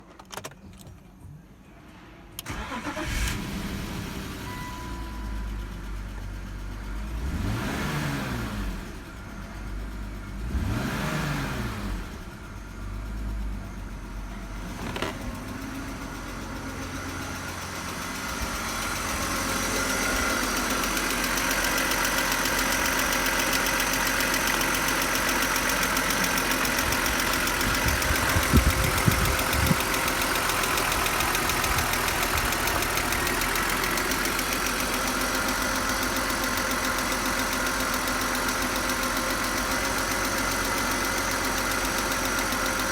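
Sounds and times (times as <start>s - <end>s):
car engine starting and revving: 2.0s - 4.8s, 5.4s - 42.9s.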